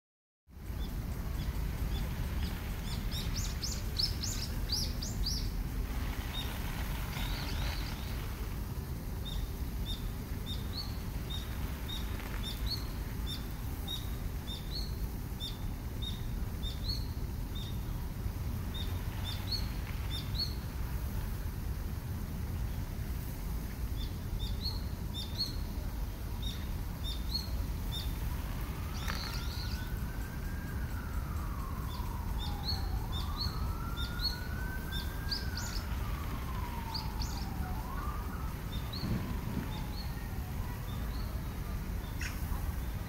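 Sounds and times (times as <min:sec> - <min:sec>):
low background rumble: 0:00.5 - 0:43.0
birds singing: 0:00.6 - 0:08.5, 0:09.2 - 0:17.9, 0:18.7 - 0:20.7, 0:26.4 - 0:43.0.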